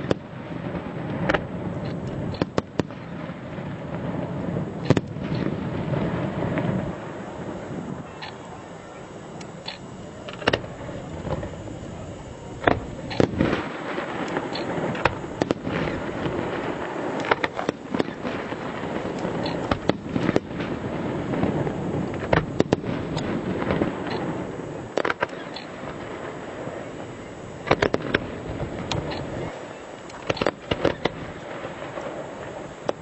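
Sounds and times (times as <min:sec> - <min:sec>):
firework bangs: 0:00.0 - 0:33.0
rumbling crackle: 0:00.0 - 0:33.0.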